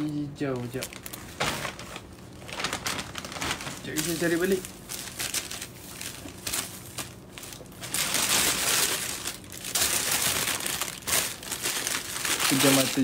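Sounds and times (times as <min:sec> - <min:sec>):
plastic bag crinkling: 0:00.5 - 0:13.0.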